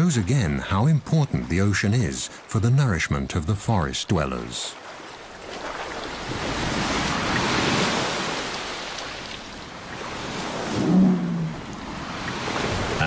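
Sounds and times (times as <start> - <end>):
ocean waves washing in: 0.0 - 13.0.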